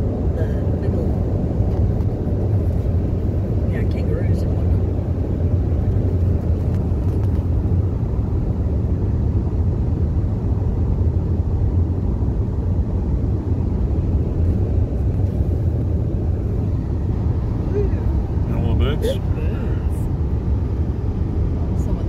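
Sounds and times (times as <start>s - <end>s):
engine running: 0.0s - 22.0s
tyres rumbling on road: 0.0s - 22.0s.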